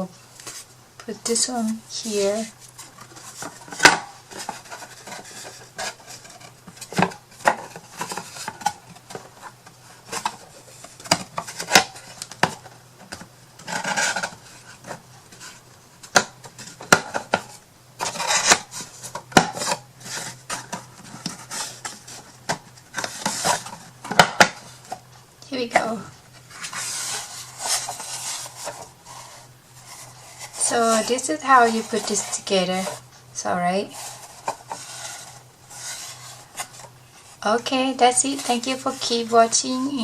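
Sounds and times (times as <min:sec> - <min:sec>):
wooden parts scraping: 0:01.6 - 0:15.6, 0:16.4 - 0:24.9, 0:26.4 - 0:33.0, 0:33.8 - 0:39.6.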